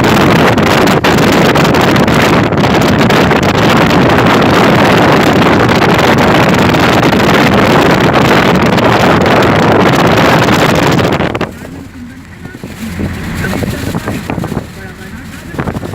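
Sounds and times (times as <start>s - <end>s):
vehicle travel rumble: 0.0s - 15.9s
wind buffeting microphone: 0.0s - 15.9s.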